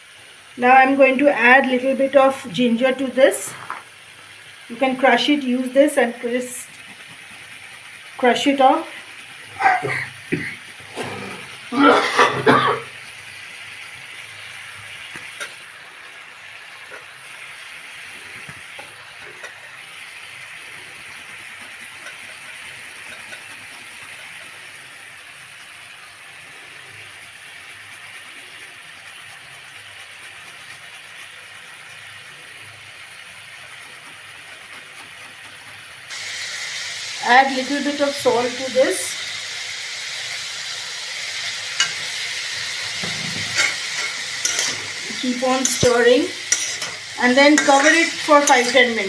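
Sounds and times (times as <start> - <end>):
vegetables sizzling in oil: 0.0 - 49.0.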